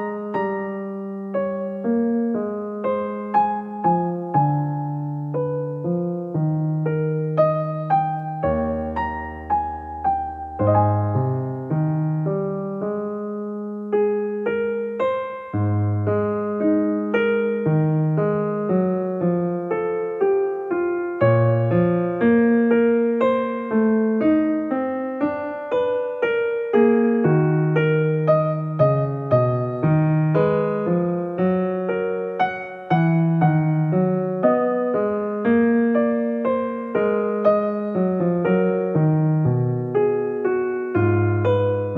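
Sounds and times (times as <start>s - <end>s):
solo piano music: 0.0s - 41.9s.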